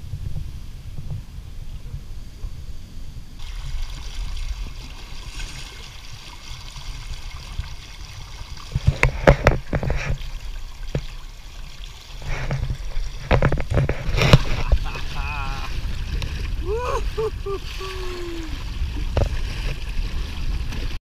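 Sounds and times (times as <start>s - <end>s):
wind rumbling on microphone: 0.0s - 21.0s
loud water splashes: 3.4s - 21.0s
water slapping against hull: 3.4s - 21.0s.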